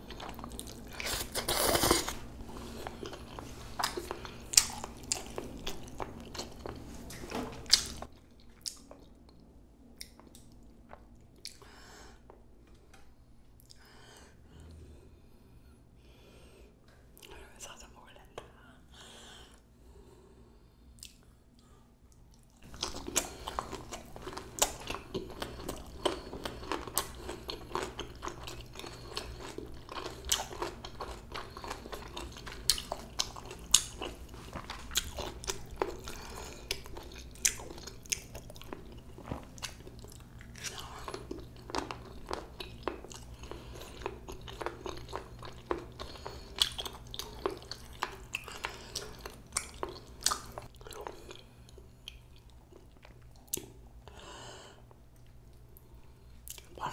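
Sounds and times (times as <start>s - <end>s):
person chewing food: 0.0s - 13.9s, 21.0s - 56.9s.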